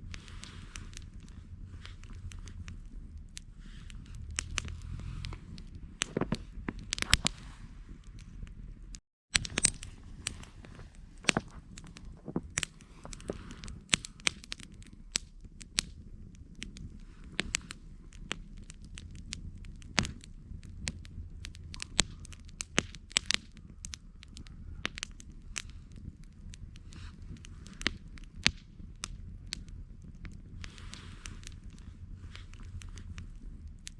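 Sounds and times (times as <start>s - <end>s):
campfire crackling: 0.0s - 33.9s
low rush of burning wood: 0.0s - 33.9s
sharp pops of fire: 0.0s - 33.9s.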